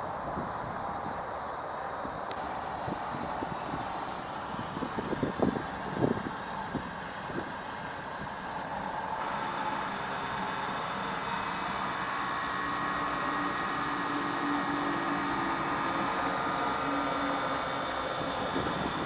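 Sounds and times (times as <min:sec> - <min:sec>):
faint whining tones rising: 0:00.0 - 0:19.0
air compressor humming: 0:02.4 - 0:19.0.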